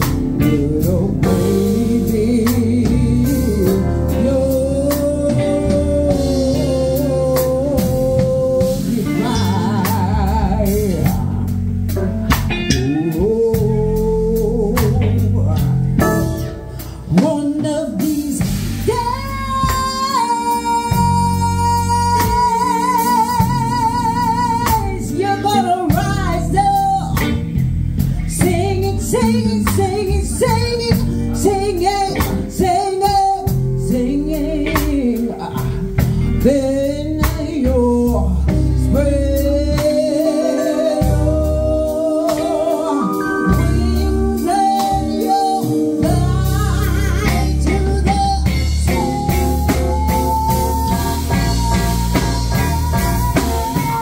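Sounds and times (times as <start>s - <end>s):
drums: 0.0s - 54.0s
electric guitar: 0.0s - 54.0s
woman singing through microphone: 0.4s - 11.6s, 12.7s - 27.3s, 28.3s - 54.0s.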